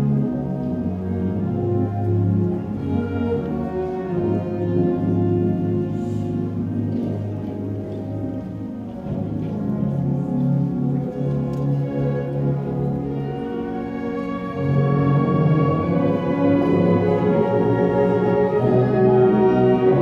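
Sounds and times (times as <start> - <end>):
orchestral brass chords: 0.0 - 20.0.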